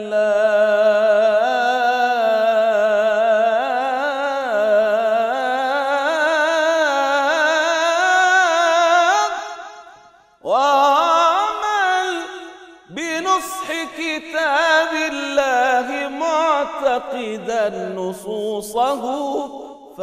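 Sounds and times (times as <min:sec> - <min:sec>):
man singing religious chant: 0:00.0 - 0:20.0.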